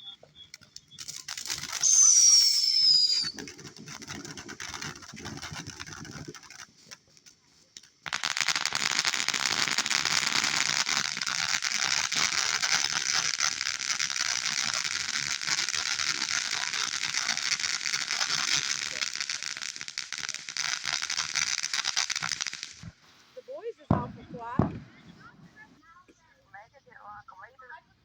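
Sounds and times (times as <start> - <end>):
firework crackling: 0.0 - 26.4.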